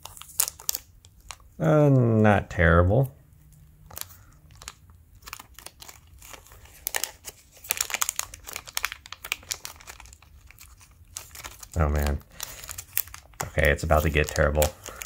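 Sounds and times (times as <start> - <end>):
foil pack crinkling: 0.0 - 1.6, 3.8 - 15.0.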